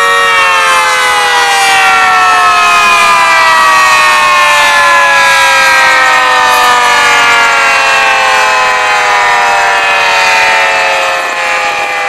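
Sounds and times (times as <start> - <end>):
alarm siren winding down: 0.0 - 12.0.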